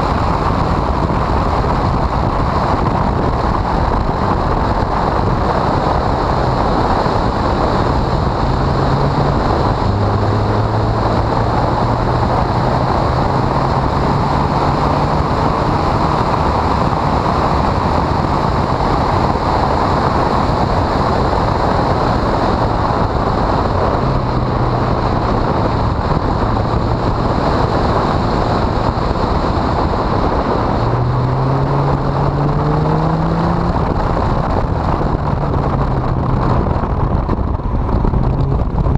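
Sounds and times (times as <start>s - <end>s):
car engine revving: 0.0s - 38.9s
wind noise on microphone: 0.0s - 38.9s.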